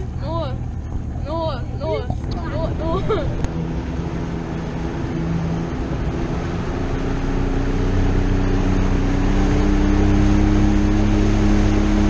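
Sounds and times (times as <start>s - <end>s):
outboard motor running: 0.0s - 12.0s
water noise: 0.0s - 12.0s
wind: 0.0s - 12.0s.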